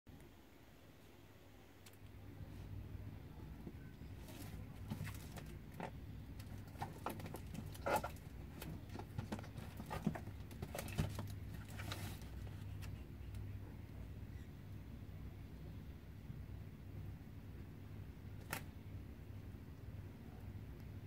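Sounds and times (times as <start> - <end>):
low steady hum: 0.1 - 21.0.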